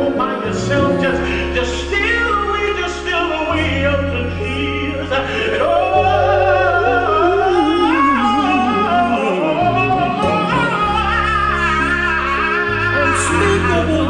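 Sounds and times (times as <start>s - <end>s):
held bass notes: 0.0s - 14.0s
man singing into a microphone: 0.0s - 14.0s.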